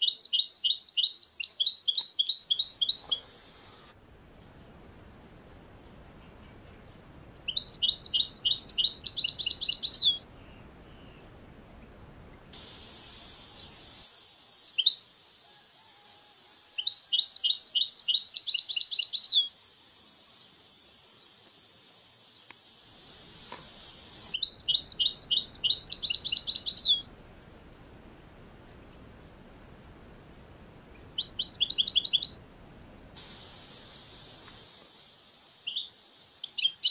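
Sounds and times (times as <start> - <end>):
songbird singing: 0.0 - 36.9
steady high hiss: 0.0 - 36.9.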